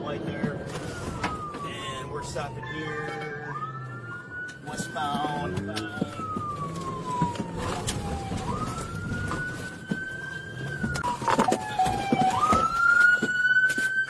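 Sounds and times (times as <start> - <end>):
car engine and road noise: 0.0 - 14.0
police siren wailing: 0.0 - 14.0.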